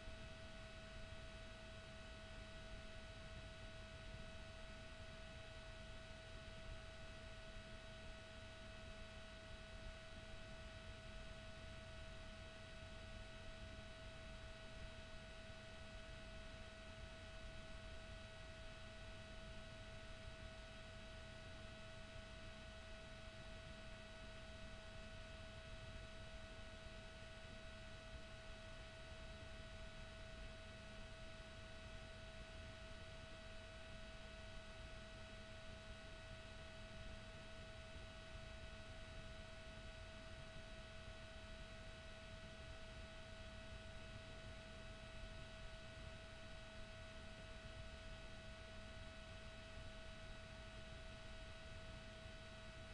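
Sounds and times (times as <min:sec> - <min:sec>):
faint steady whine: 0:00.0 - 0:52.9.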